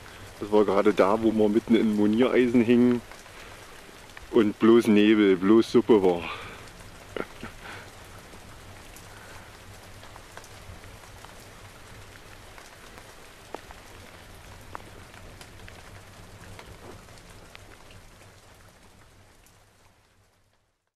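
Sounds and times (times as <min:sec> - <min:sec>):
rain falling steadily: 0:00.0 - 0:20.9.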